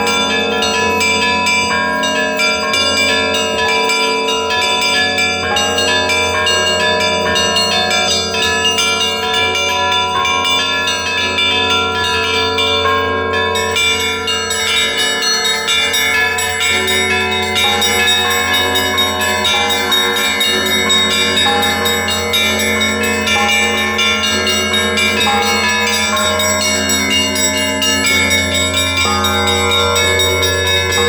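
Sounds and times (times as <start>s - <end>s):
deep bells humming: 0.0s - 31.0s
small bells ringing quickly: 0.0s - 31.0s.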